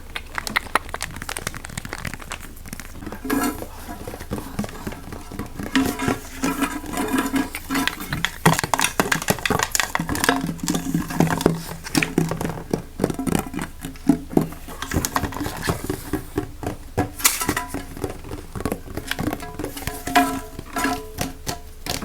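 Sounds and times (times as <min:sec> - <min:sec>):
fast irregular tapping: 0:00.0 - 0:22.0.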